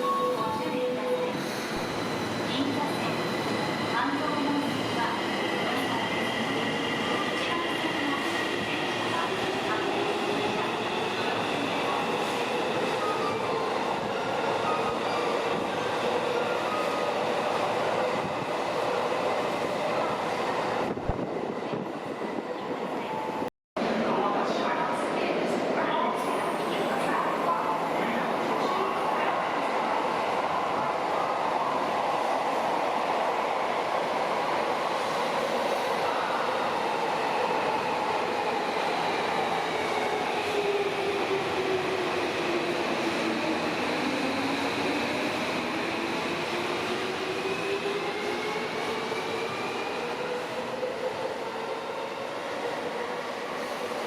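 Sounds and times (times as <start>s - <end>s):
subway train wheel and rail noise: 0.0s - 54.0s.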